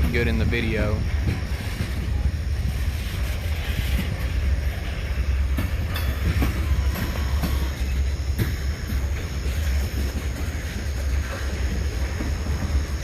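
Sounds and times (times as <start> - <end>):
freight train rumbling past: 0.0 - 13.0
train wheels clicking: 0.0 - 13.0.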